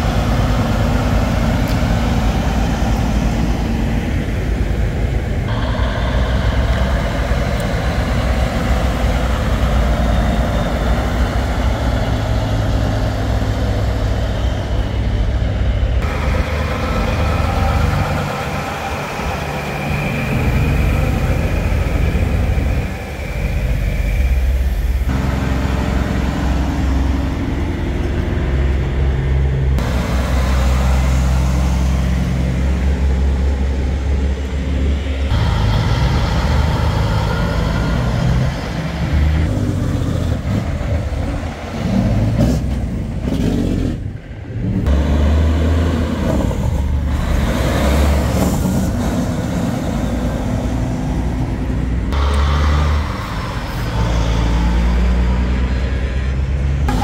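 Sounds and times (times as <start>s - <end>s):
diesel truck engines droning: 0.0s - 57.0s.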